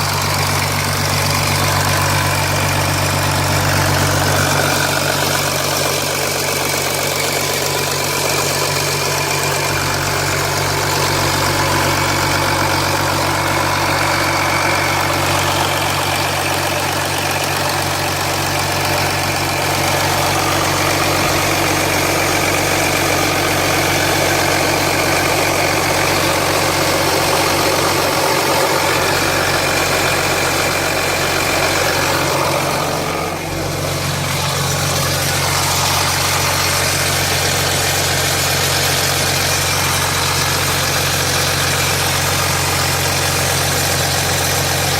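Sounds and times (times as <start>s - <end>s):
diesel engine idling: 0.0s - 44.9s
engine rattle: 0.0s - 44.9s.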